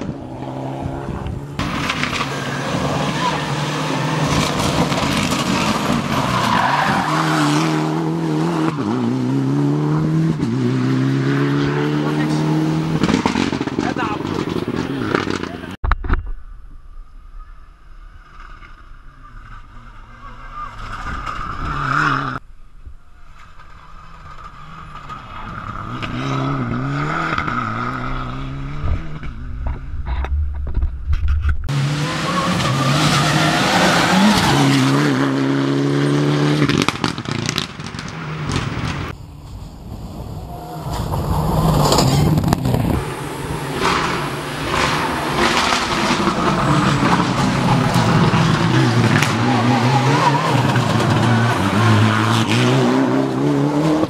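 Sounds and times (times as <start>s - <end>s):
rally car engine revving: 0.0s - 15.8s, 23.7s - 30.9s, 31.6s - 39.2s, 40.0s - 54.0s.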